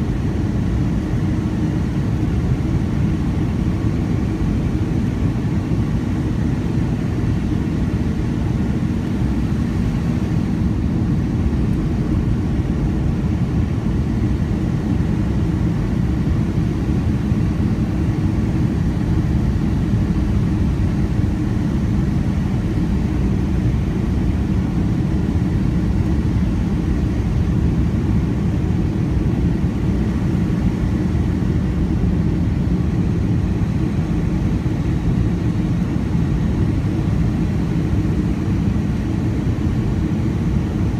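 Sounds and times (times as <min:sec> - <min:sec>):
jet engines and airflow rumble in cabin: 0:00.0 - 0:40.9.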